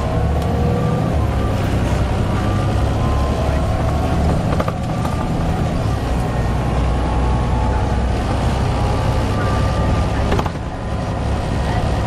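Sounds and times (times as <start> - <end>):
bus diesel engine running: 0.0 - 12.0
high engine whine: 0.0 - 12.0.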